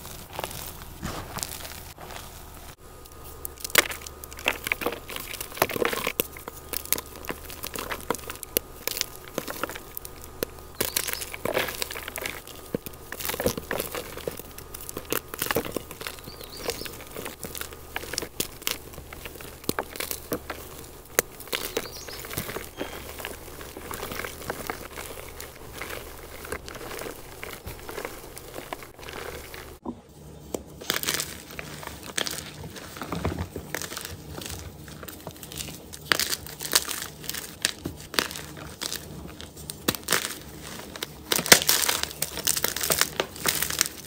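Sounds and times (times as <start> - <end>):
hands crumbling chalk: 0.0 - 29.8, 30.5 - 44.0.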